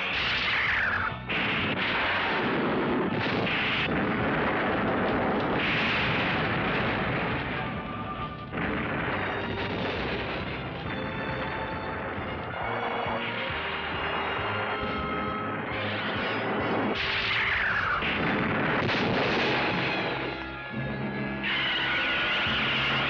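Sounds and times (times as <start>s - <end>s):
background music: 0.0s - 4.4s, 5.4s - 23.0s
explosions: 0.0s - 23.0s
rushing fire: 0.0s - 23.0s.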